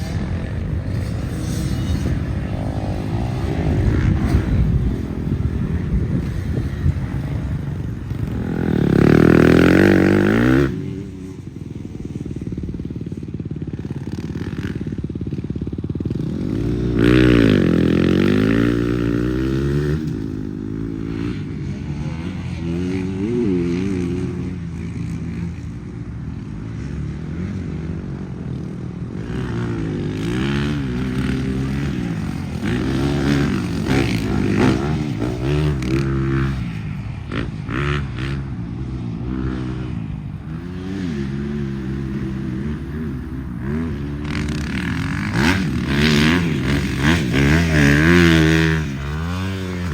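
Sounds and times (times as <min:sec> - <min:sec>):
dirt bike engine revving: 0:00.0 - 0:25.4, 0:29.1 - 0:49.9.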